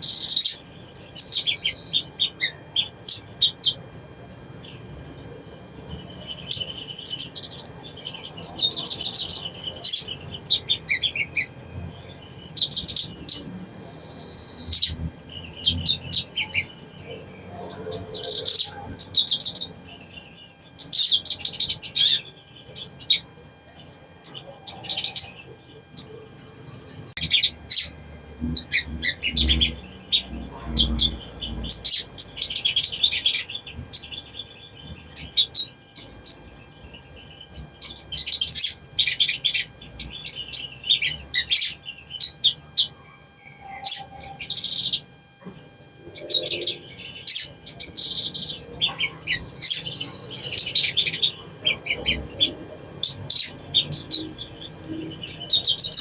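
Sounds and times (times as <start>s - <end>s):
bird singing chattering trills: 0.0s - 56.0s.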